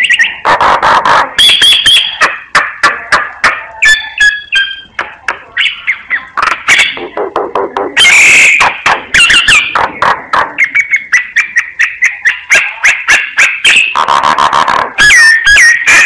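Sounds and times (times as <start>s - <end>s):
myna singing clicks and whistles: 0.0s - 0.6s, 1.4s - 7.2s, 7.8s - 16.0s
harsh rasping bird calls: 0.0s - 16.0s.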